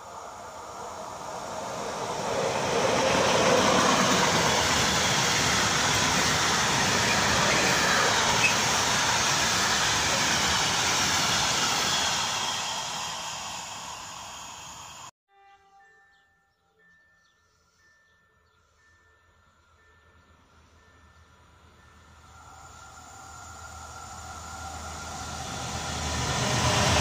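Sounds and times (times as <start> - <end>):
freight train passing: 0.0 - 16.1, 16.8 - 27.0.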